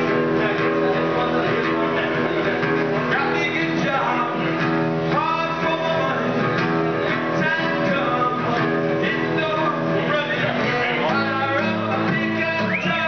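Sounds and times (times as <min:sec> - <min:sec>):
acoustic guitar chords: 0:00.0 - 0:13.0
man singing: 0:00.0 - 0:13.0.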